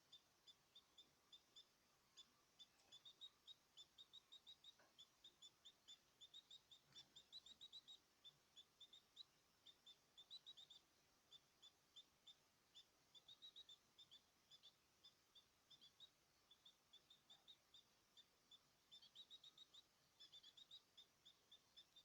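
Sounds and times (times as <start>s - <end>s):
cage birds chirping: 0.0s - 22.0s.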